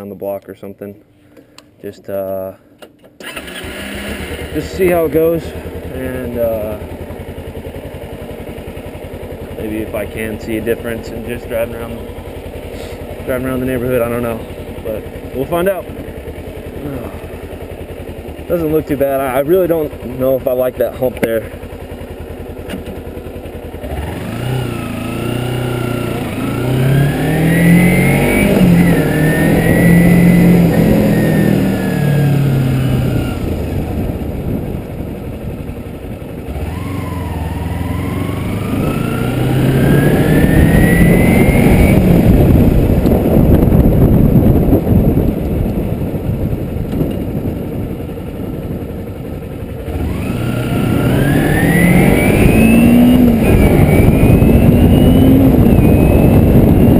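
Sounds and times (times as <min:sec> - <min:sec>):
motorcycle engine accelerating: 0:03.2 - 0:56.9.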